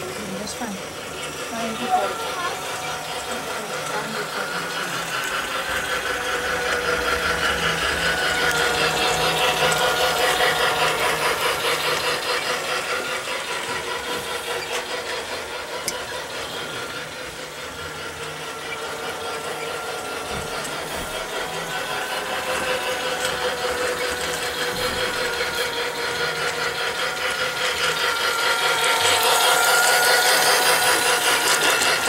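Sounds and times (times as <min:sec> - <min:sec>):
toy train motor running: 0:00.0 - 0:32.0
wheels rattling on track: 0:00.0 - 0:32.0.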